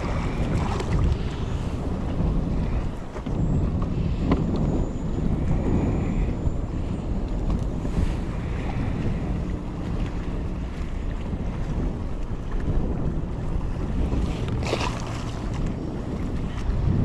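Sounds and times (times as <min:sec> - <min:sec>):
water washing around boat: 0:00.0 - 0:17.0
wind buffeting microphone: 0:00.0 - 0:17.0.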